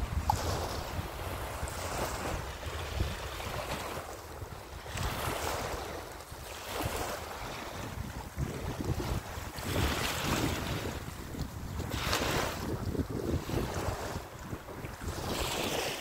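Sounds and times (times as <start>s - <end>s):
small waves splashing on shore: 0.0s - 16.0s
wind rumbling on microphone: 0.0s - 16.0s.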